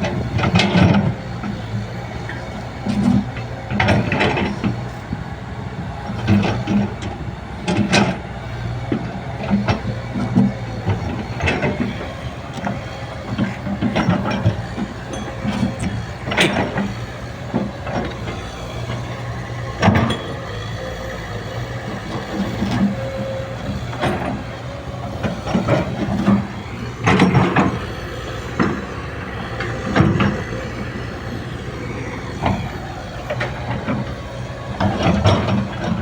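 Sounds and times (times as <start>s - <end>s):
excavator engine droning: 0.0s - 36.0s
excavator knocks and clanks: 0.0s - 36.0s.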